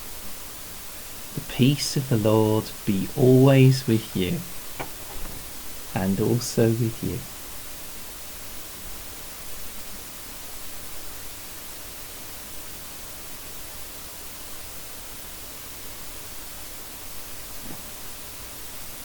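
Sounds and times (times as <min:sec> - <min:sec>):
recording noise hiss: 0:00.0 - 0:19.0.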